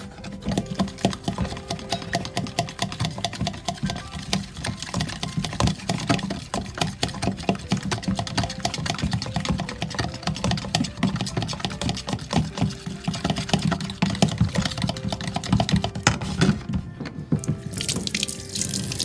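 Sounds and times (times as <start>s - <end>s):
fork beating batter in plastic tub: 0.0s - 18.3s.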